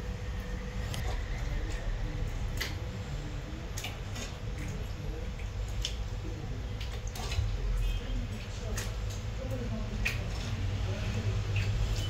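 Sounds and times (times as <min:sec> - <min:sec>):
steady low hum: 0:00.0 - 0:11.9
thick sauce squelching: 0:00.4 - 0:12.0.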